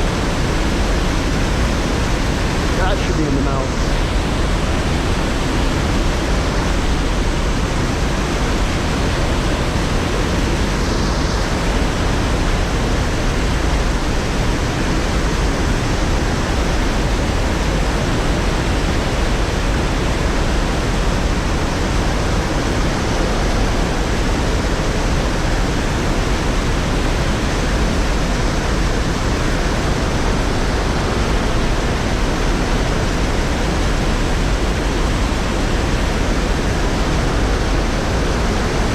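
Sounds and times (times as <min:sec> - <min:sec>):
water rushing over waterfall: 0:00.0 - 0:38.9.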